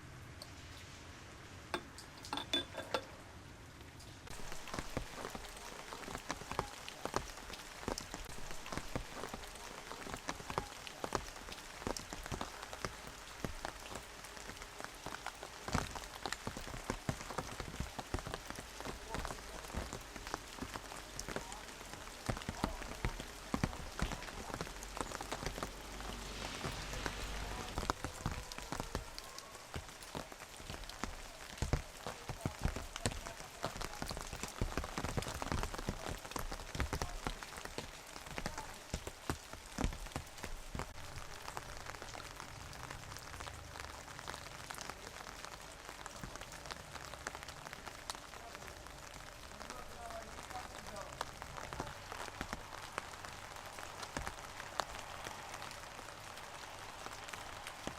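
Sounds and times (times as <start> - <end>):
rain on hard surface: 0.0 - 57.9.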